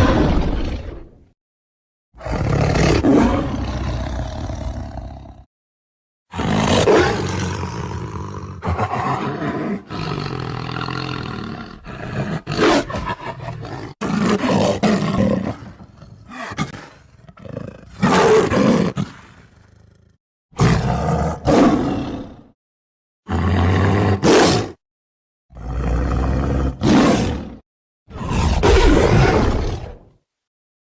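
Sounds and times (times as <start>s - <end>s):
tiger roaring: 2.2s - 5.5s, 6.3s - 22.5s, 23.3s - 24.8s, 25.5s - 30.1s.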